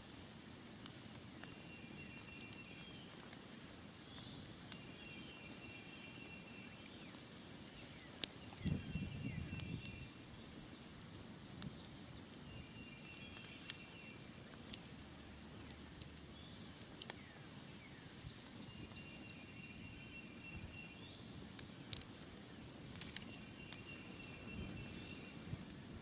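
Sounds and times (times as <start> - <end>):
campfire crackling and popping: 0.0 - 26.0
soft background rumble: 0.0 - 26.0.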